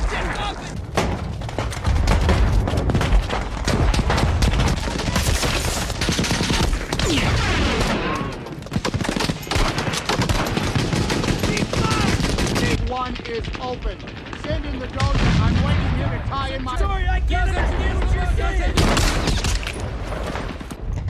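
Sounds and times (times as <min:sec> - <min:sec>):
rapid overlapping gunfire: 0:00.0 - 0:21.0.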